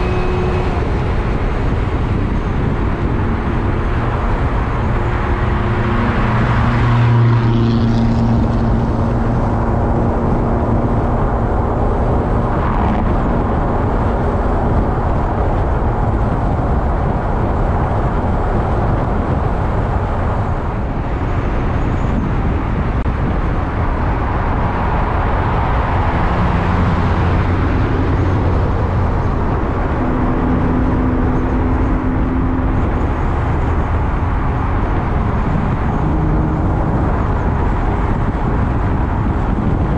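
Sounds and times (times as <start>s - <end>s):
car engine hum: 0.0s - 39.9s
road tyre and wind noise: 0.0s - 39.9s.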